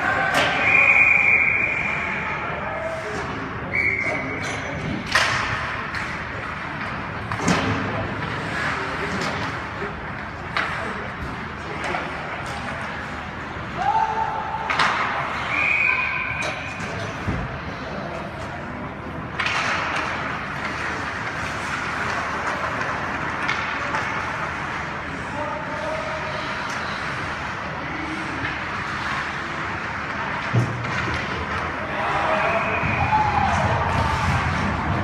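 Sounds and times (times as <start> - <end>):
spectator chatter: 0.0 - 35.0.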